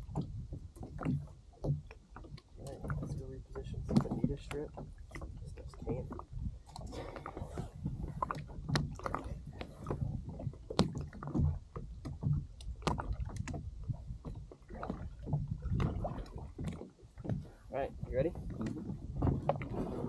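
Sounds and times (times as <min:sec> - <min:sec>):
gear knocking on plastic kayak: 0:00.0 - 0:06.4, 0:07.8 - 0:20.0
water and wind rumble: 0:00.0 - 0:20.0.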